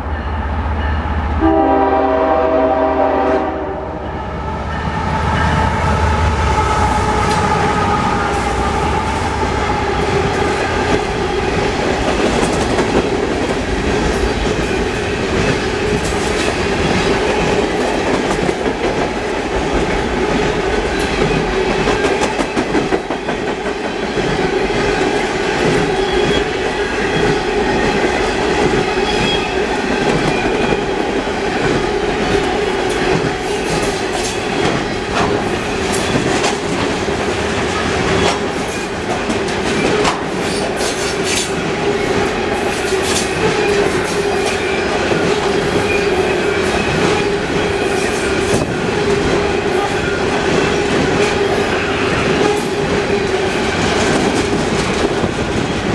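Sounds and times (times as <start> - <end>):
freight train rolling past: 0.0 - 55.9
wheels clicking on rail: 7.1 - 55.9.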